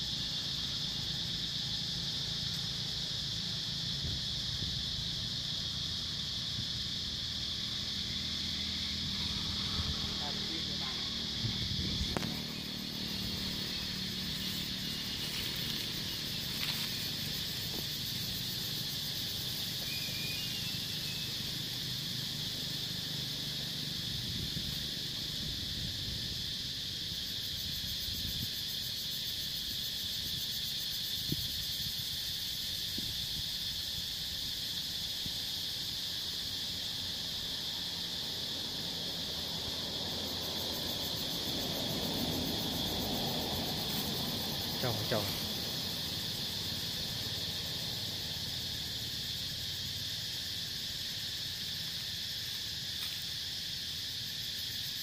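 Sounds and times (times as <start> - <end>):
shrill insect chorus: 0.0 - 55.0.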